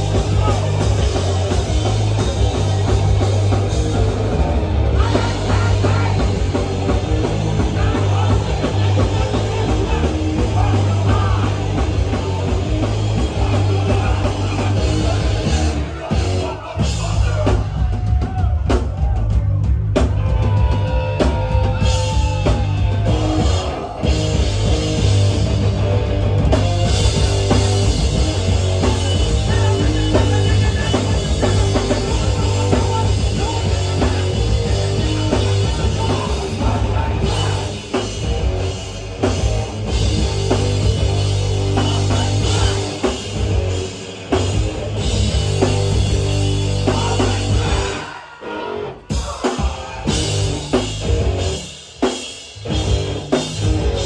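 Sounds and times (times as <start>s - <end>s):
drum kit: 0.0s - 54.0s
punk band playing loud and fast: 0.0s - 54.0s.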